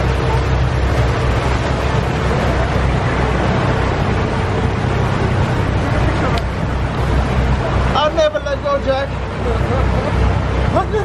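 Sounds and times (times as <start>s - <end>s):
boat engines droning: 0.0s - 11.0s
rushing boat wake: 0.0s - 11.0s.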